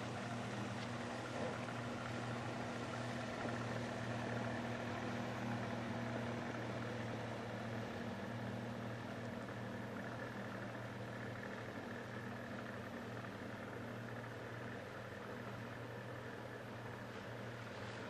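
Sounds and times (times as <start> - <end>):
boat motor idling: 0.0 - 18.0.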